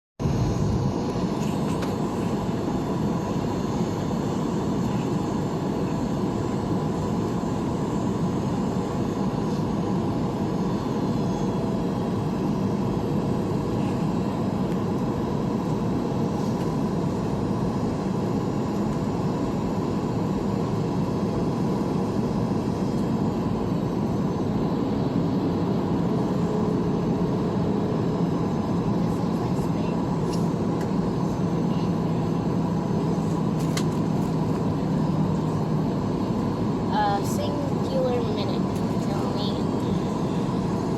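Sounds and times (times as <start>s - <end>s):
jet engine cabin hum: 0.2s - 40.9s.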